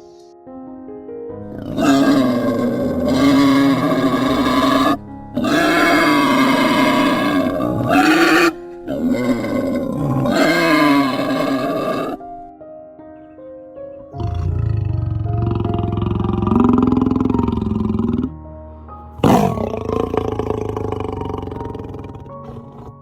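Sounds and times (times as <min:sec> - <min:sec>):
background music: 0:00.0 - 0:23.0
large animal calling: 0:01.5 - 0:12.2, 0:14.1 - 0:18.4, 0:19.2 - 0:23.0.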